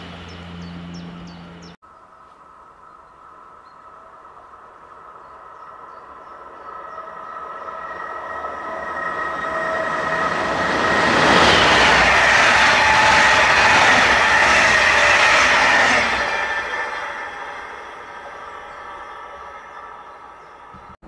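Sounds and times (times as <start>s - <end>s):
train wheels rumbling on rail: 0.0s - 1.8s, 4.4s - 21.0s.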